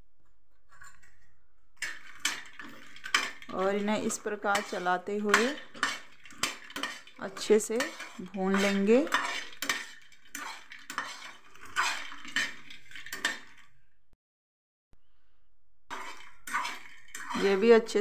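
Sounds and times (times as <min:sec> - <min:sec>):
spoon scraping a steel pan: 0:00.7 - 0:13.7, 0:15.9 - 0:18.0.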